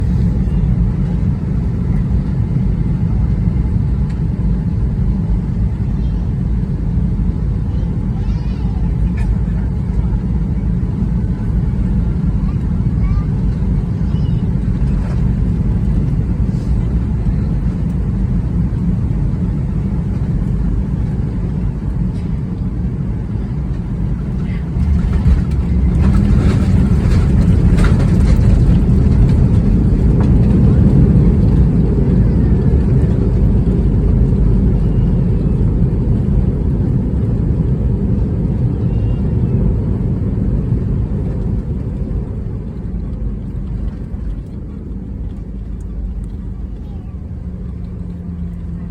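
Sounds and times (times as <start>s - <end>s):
airplane cabin roar: 0.0s - 48.9s.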